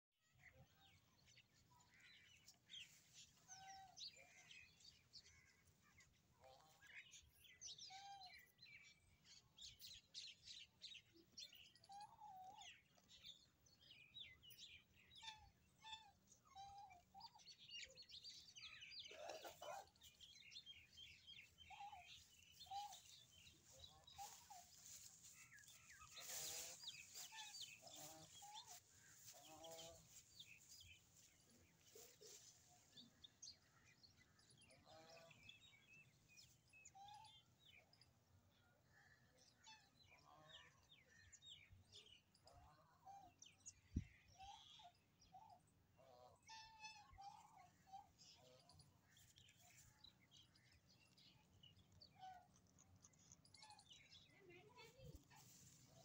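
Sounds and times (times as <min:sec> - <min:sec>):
small birds chirping: 0:00.4 - 0:56.0.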